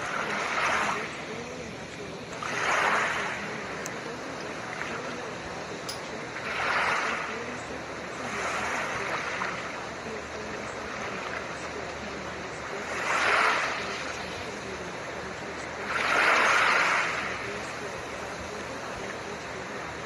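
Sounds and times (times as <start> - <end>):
ocean waves washing in: 0.0 - 20.0
steady noise hiss: 0.0 - 20.0.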